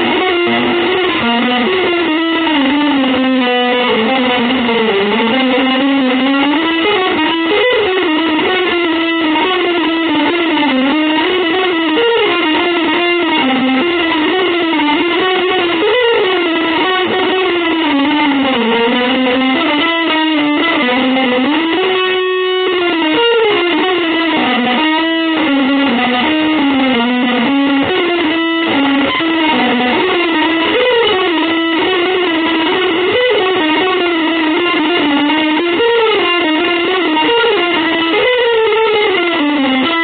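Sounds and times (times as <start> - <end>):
electric guitar melody: 0.0 - 40.0.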